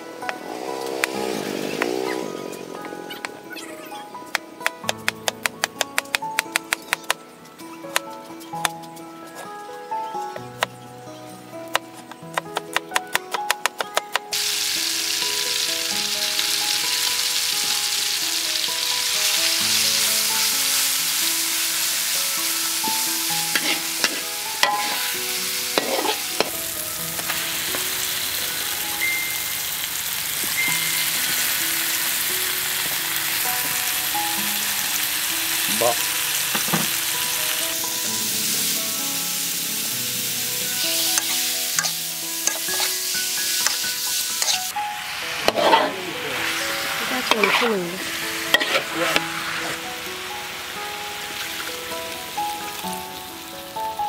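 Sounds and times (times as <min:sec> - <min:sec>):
food sizzling in a pan: 0:00.0 - 0:04.1, 0:14.3 - 0:54.0
soft background music: 0:00.0 - 0:54.0.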